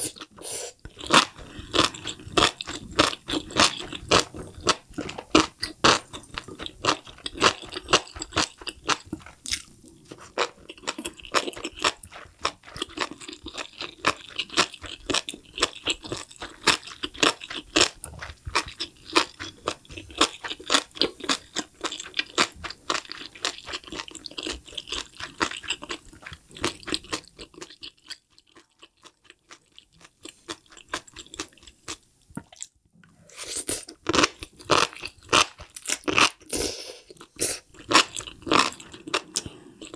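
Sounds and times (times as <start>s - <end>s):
person chewing mushrooms: 0.0s - 39.9s.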